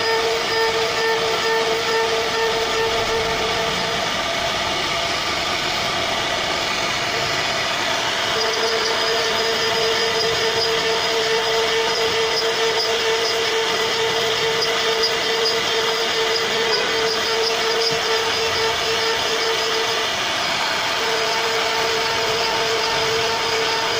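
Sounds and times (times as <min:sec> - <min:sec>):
bit cutting wood hiss: 0:00.0 - 0:23.9
router spindle whine: 0:00.0 - 0:23.9.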